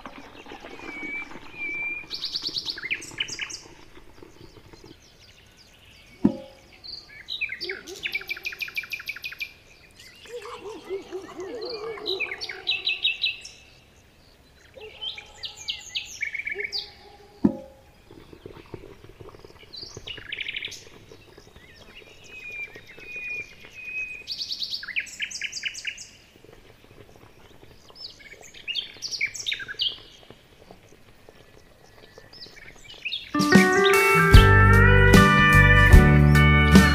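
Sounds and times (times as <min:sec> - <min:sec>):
birds chirping and trilling: 0:00.0 - 0:36.9.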